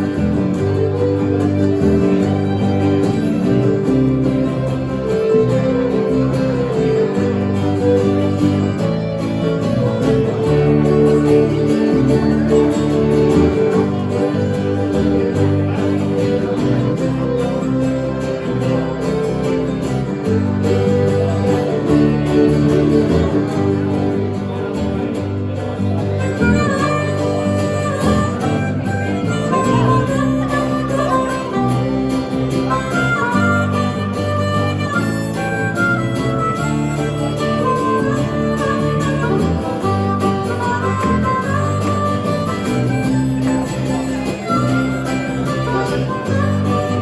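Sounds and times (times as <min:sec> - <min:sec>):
fiddle: 0:00.0 - 0:47.0
guitar: 0:00.0 - 0:47.0.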